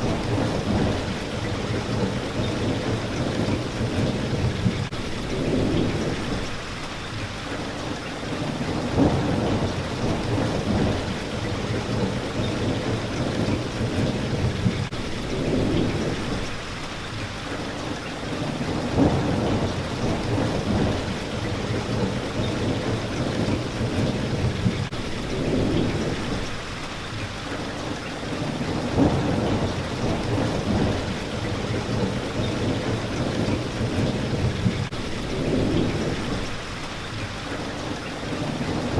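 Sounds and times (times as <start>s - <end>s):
low rolling thunder: 0.0s - 6.6s, 8.3s - 16.6s, 18.3s - 26.6s, 28.2s - 36.8s, 38.2s - 38.9s
rain on window glass: 0.0s - 38.9s.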